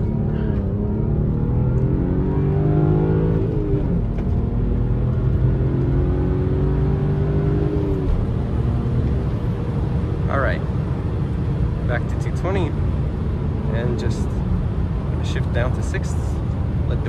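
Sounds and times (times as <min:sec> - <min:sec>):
car engine accelerating: 0:00.0 - 0:17.0
road noise: 0:00.0 - 0:17.0.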